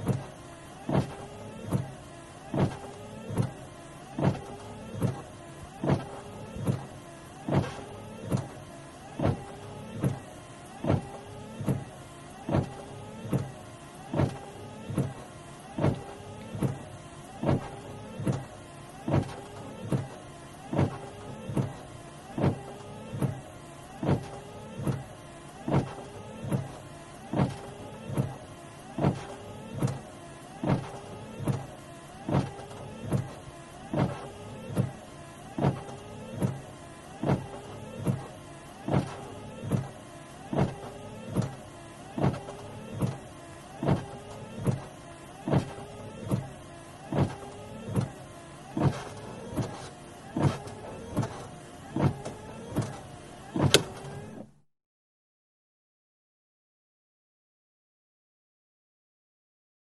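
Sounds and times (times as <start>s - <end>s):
wiper blade knock: 0.0s - 23.4s, 29.0s - 54.5s
steady low hum: 0.0s - 54.5s
windscreen wipers sweeping: 0.0s - 54.6s.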